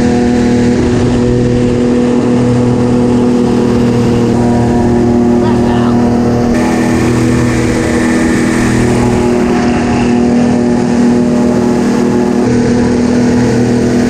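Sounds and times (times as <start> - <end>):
airboat engine and propeller drone: 0.0 - 14.0.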